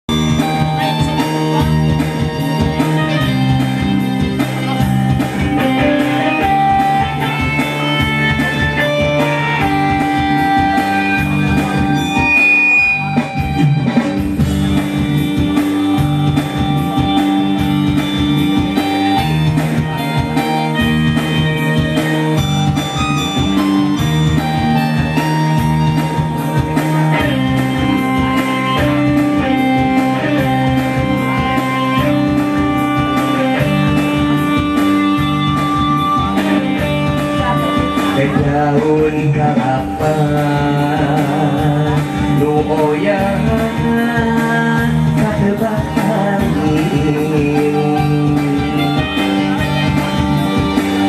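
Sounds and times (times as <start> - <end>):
electronic keyboard: 0.0 - 51.0
guitar-like melody: 0.0 - 51.0
steady drum beat: 0.1 - 12.4, 13.0 - 51.0.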